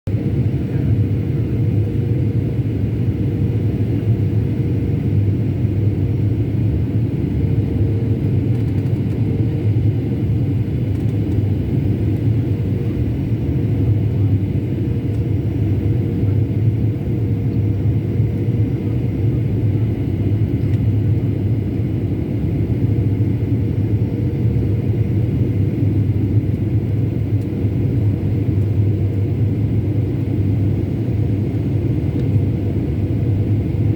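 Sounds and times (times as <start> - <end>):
airliner cabin drone: 0.1 - 33.9.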